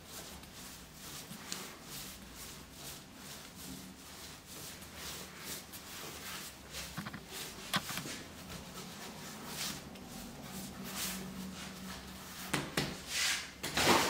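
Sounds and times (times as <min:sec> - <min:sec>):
hands rolling dough: 0:00.0 - 0:13.6.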